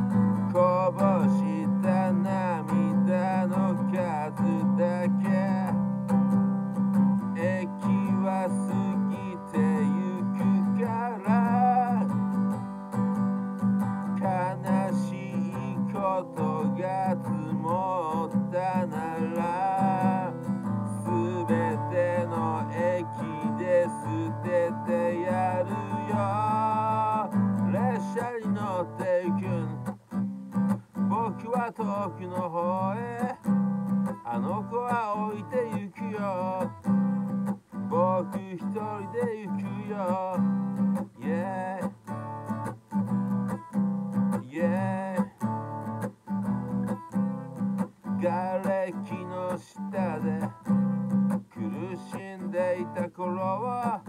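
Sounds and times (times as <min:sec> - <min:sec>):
man singing: 0:00.0 - 0:13.0, 0:13.8 - 0:30.0, 0:30.9 - 0:43.1, 0:44.1 - 0:54.0
acoustic guitar strumming: 0:00.0 - 0:54.0.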